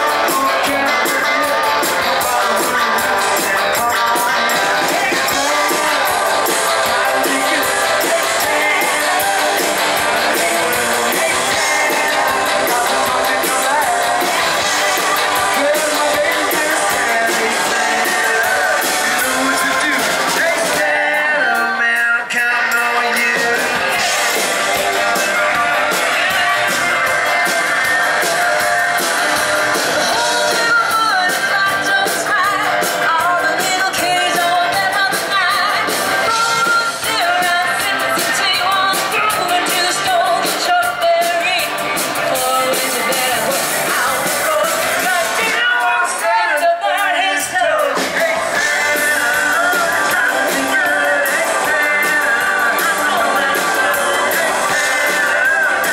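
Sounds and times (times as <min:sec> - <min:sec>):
live rock band playing: 0:00.0 - 0:55.9
person singing: 0:00.0 - 0:55.9.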